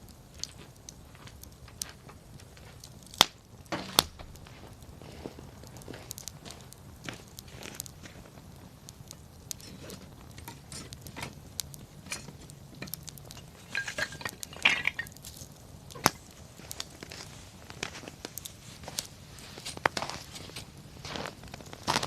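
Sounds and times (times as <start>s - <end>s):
campfire crackling: 0.0s - 22.0s
fire snaps and pops: 0.0s - 22.0s.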